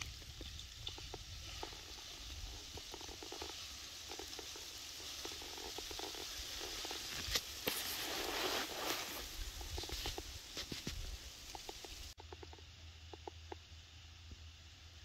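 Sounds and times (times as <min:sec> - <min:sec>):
rustling and crackling: 0:00.0 - 0:12.6.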